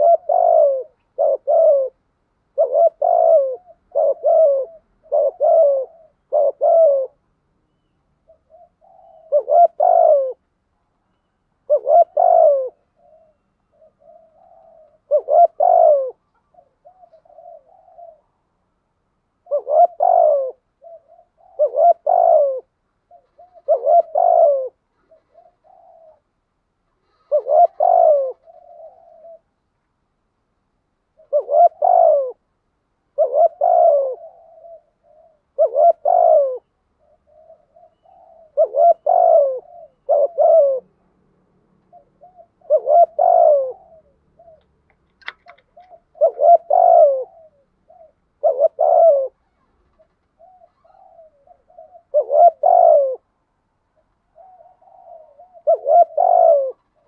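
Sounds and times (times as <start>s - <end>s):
soft murmured coos: 0.0s - 7.3s, 8.2s - 11.0s, 11.6s - 18.7s, 19.4s - 29.6s, 31.1s - 32.5s, 33.1s - 57.0s
dove cooing: 0.0s - 10.5s, 11.6s - 18.6s, 19.3s - 29.6s, 31.1s - 32.5s, 33.1s - 57.0s.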